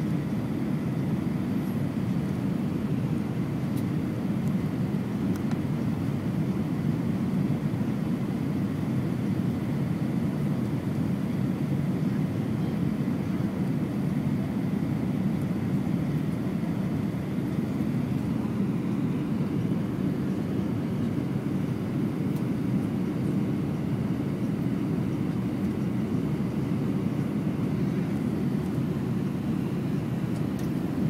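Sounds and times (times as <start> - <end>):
airplane cabin rumble: 0.0 - 31.0.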